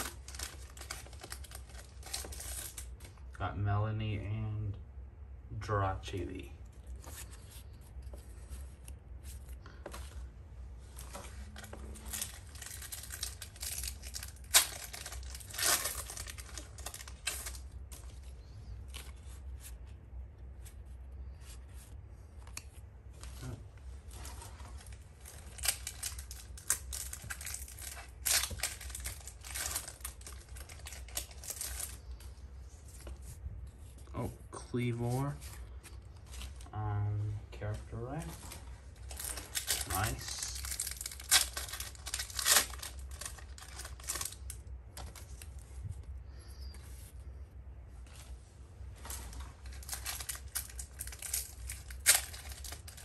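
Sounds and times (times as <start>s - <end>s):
trading cards rustling: 0.0s - 3.2s, 6.7s - 19.9s, 20.6s - 34.1s, 37.7s - 47.4s, 49.0s - 53.0s.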